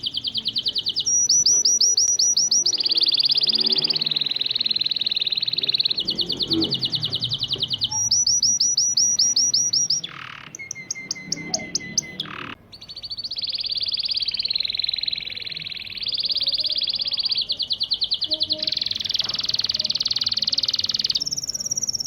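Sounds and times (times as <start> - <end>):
canary singing trills: 0.0 - 22.0.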